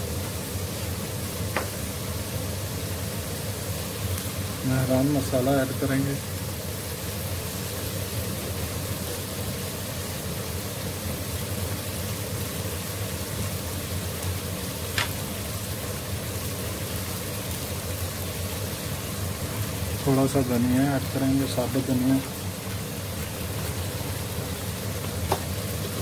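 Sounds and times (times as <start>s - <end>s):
spices sizzling in oil: 0.0s - 26.0s.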